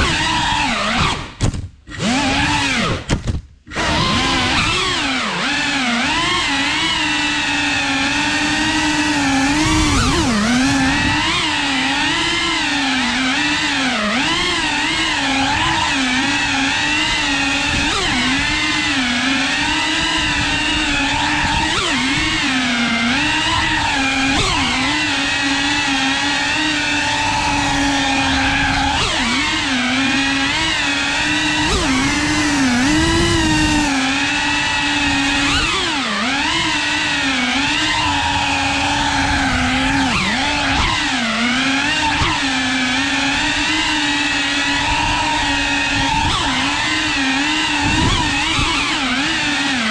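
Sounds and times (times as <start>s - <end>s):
drone motors and propellers whining: 0.0s - 49.9s.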